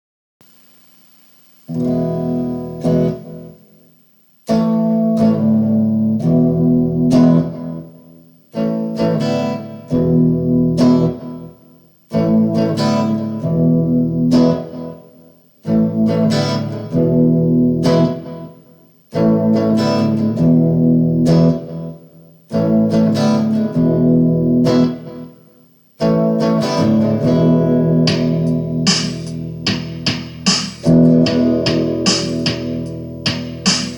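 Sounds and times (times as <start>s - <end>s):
guitar strumming chords: 1.7s - 33.9s.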